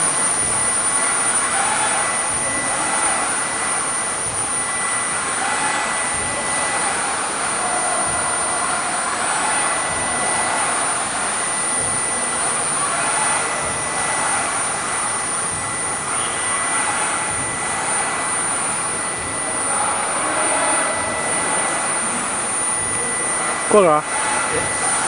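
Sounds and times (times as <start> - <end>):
constant rushing noise: 0.0 - 25.0
spindle high-pitched whine: 0.0 - 25.0.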